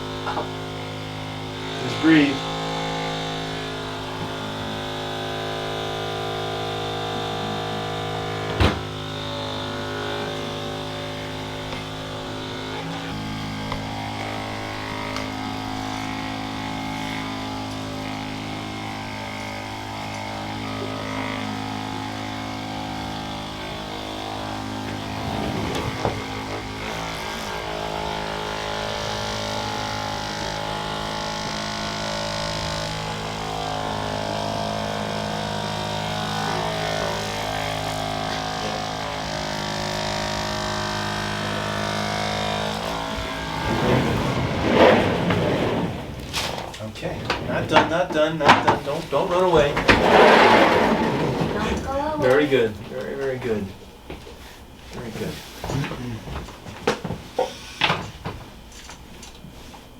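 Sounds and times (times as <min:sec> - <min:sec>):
electric massager buzzing hum: 0:00.0 - 0:59.9.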